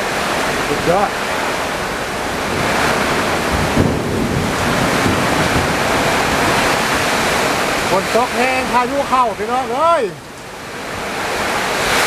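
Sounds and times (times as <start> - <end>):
storm wind buffeting microphone: 0.0 - 12.0.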